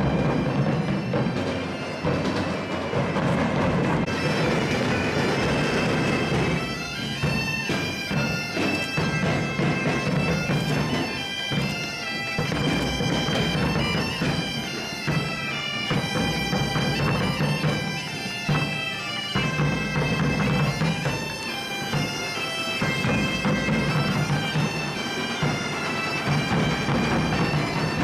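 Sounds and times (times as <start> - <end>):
bagpipes playing a tune: 0.0 - 28.0
drums beating: 0.0 - 28.0.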